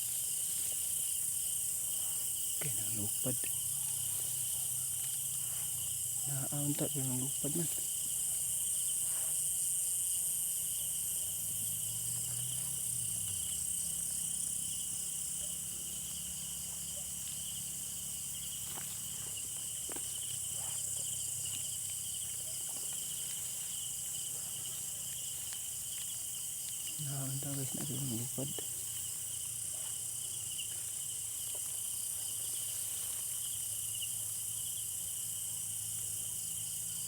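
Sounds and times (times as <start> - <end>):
crickets chirring: 0.0 - 37.0.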